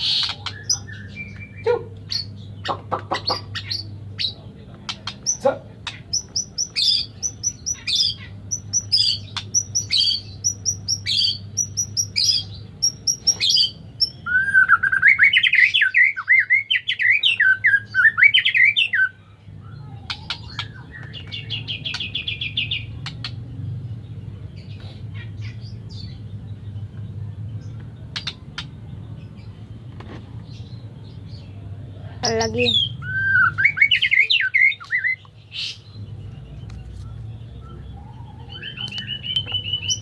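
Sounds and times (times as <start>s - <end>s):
bird warbling song: 0.0s - 40.0s.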